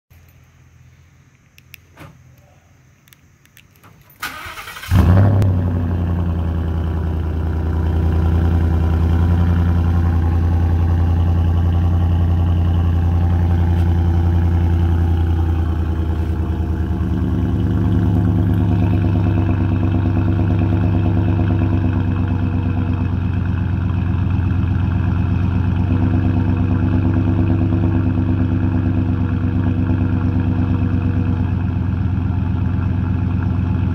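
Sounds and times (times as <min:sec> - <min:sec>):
truck engine starting and idling: 0:03.7 - 0:33.9.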